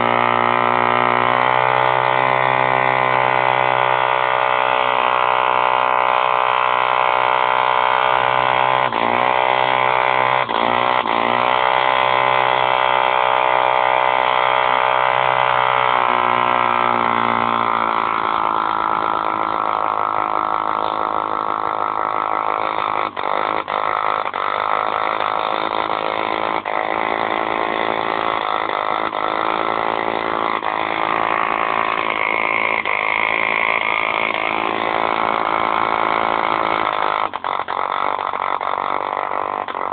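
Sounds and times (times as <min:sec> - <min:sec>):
diesel engine running at high speed: 0:00.0 - 0:39.0.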